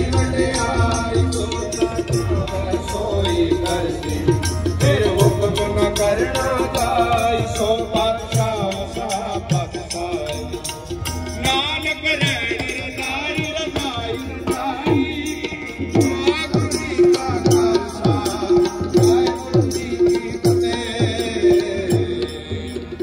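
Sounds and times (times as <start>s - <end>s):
hand drum beat: 0.0s - 23.0s.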